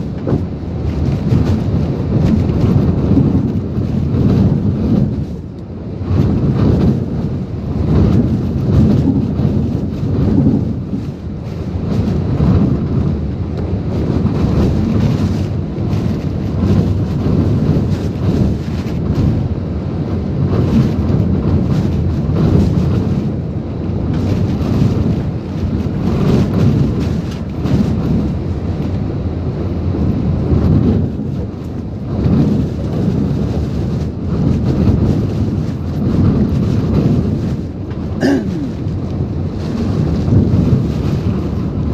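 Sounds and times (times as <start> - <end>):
rain: 0.0 - 41.9
strong wind gusting: 0.0 - 41.9.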